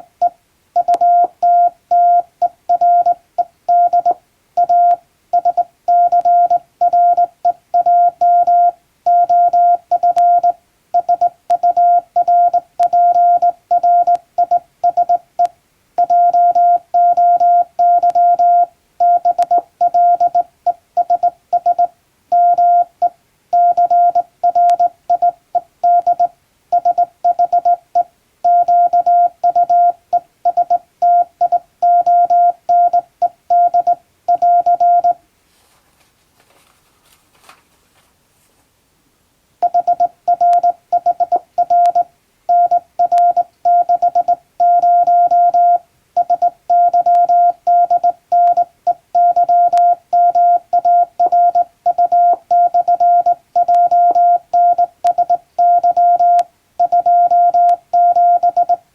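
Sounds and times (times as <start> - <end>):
morse code beeps: 0.0 - 15.2, 16.0 - 35.2, 39.6 - 58.8.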